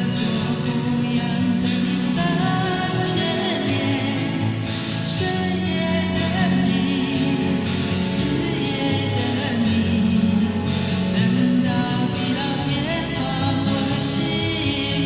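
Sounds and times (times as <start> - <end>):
karaoke backing track: 0.0 - 15.0
woman singing pop song: 0.0 - 15.0.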